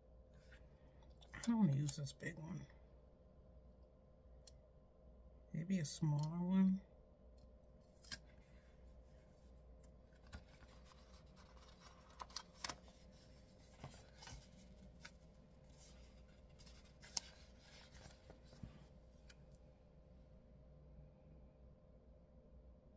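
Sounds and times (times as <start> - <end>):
faint steady hum: 0.0 - 22.9.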